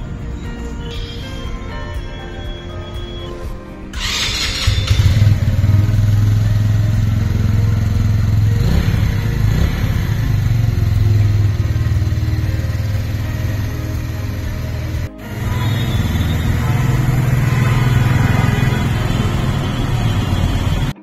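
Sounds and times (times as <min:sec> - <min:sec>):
motorcycle engine idling: 0:04.0 - 0:21.0.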